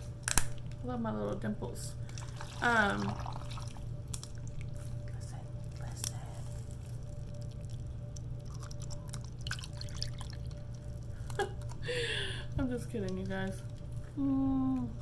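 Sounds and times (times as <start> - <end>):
low electrical hum: 0.0 - 15.0
liquid sounds in a cup: 2.0 - 11.8, 12.8 - 15.0.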